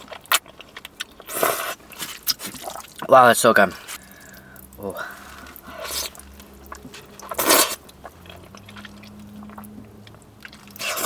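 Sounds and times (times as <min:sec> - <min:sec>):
person chewing wetly: 0:00.0 - 0:11.0.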